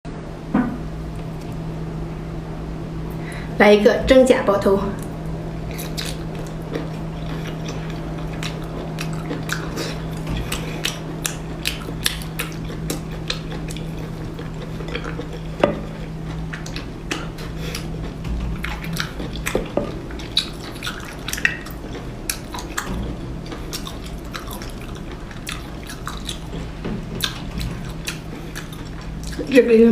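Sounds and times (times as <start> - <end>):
low hum: 0.1 - 29.9.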